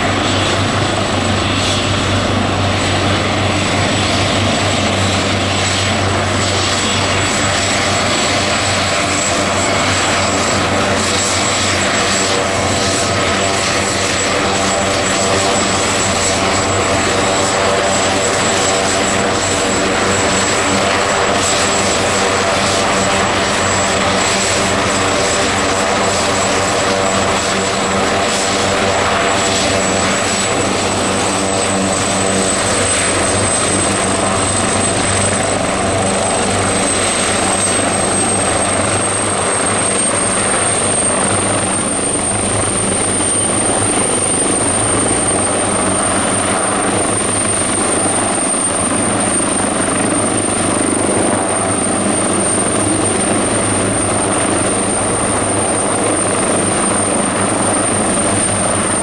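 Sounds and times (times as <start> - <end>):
helicopter rotor thrum: 0.0 - 59.0
high turbine whine: 0.0 - 59.0.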